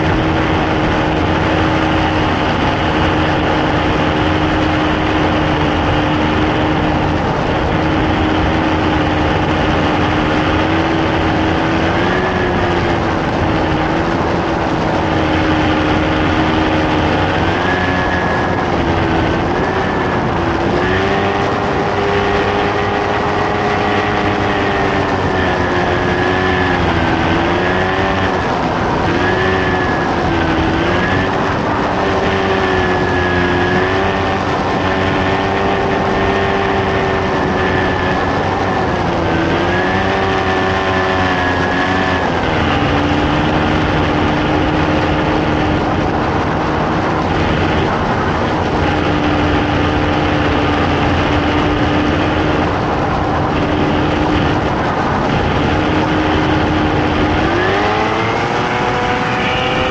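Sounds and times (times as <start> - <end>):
paramotor engine drone: 0.0 - 59.9.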